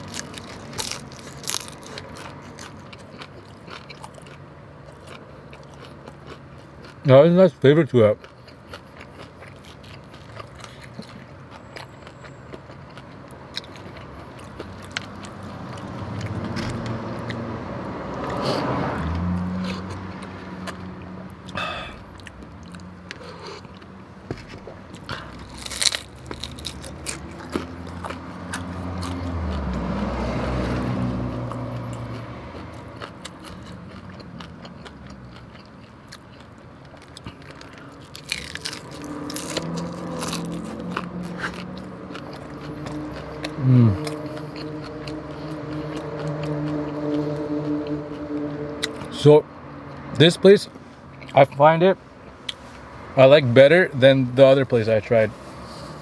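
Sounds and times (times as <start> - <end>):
man chewing tacos: 0.0 - 51.6, 52.2 - 53.0, 55.4 - 56.0.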